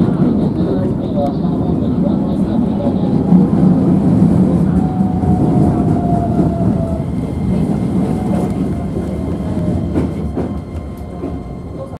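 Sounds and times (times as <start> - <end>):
train wheels rumbling: 0.0 - 11.9.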